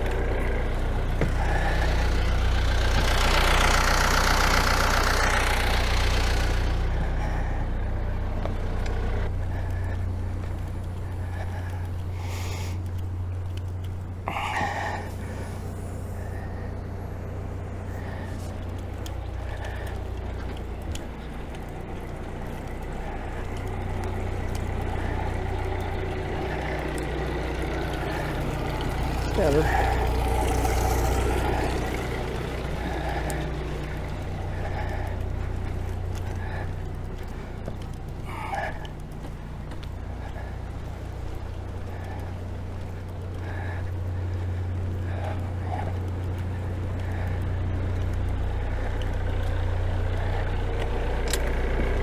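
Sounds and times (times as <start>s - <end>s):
light ticks: 0.0s - 16.9s, 17.5s - 52.0s
diesel engine running: 0.0s - 52.0s.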